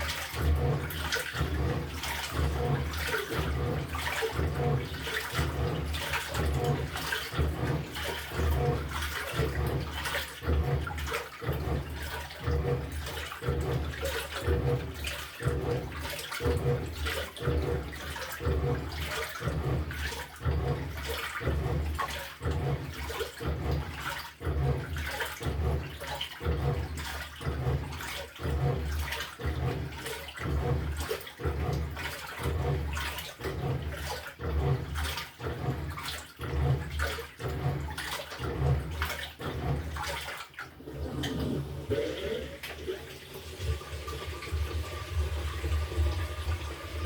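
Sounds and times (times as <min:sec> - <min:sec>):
washing machine churning: 0:00.0 - 0:47.0
water sloshing: 0:00.0 - 0:47.0.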